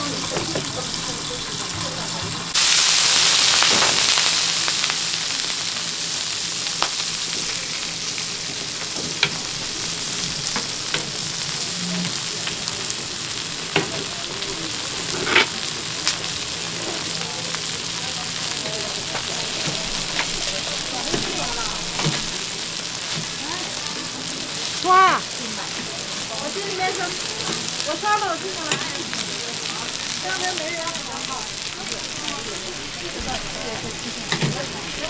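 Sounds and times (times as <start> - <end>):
dumplings sizzling on griddle: 0.0 - 35.0
loud hiss of steam: 2.5 - 34.9.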